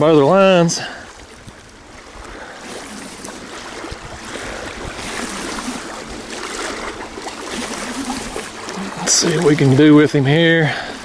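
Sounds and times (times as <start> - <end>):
lake water lapping: 0.0 - 11.0.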